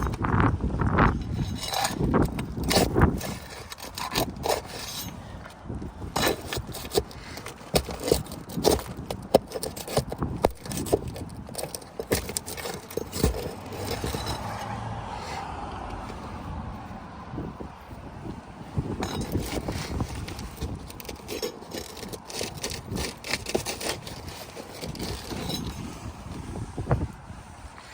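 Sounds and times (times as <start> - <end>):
metal tool scraping roof shingles: 0.0 - 15.5, 18.7 - 27.9.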